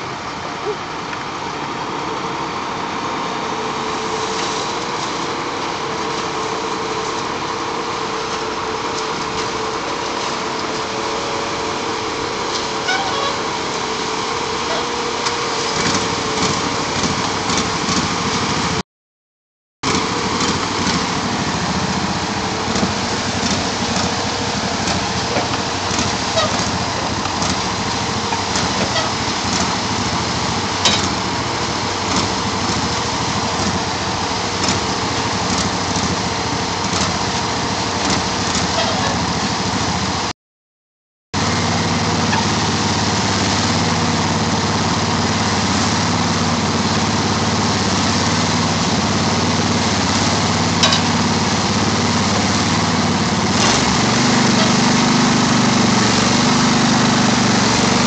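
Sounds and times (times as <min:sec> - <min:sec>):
machine engines running: 0:00.0 - 0:18.8, 0:19.8 - 0:40.3, 0:41.4 - 0:58.0.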